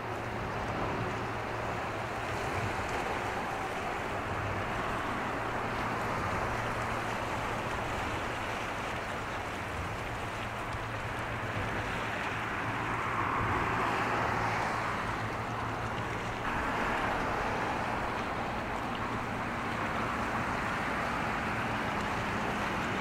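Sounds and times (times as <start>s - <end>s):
water at the shore: 0.0s - 23.0s
wind: 0.0s - 23.0s.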